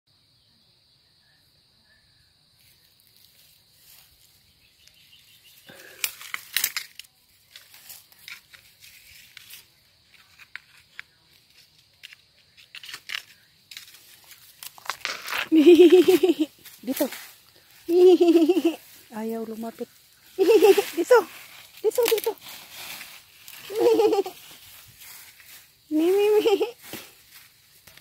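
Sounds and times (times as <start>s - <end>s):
dry brush and leaves rustling: 2.6s - 28.0s.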